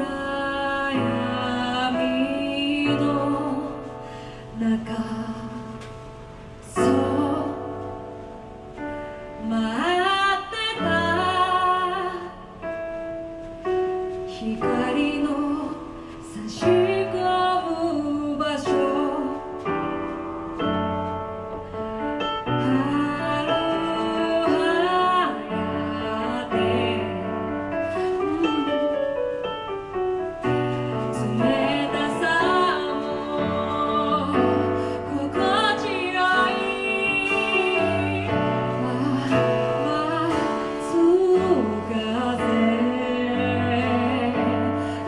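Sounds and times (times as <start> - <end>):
woman singing a slow ballad: 0.0 - 12.7, 13.9 - 29.0, 30.5 - 45.0
piano accompaniment: 0.0 - 45.0.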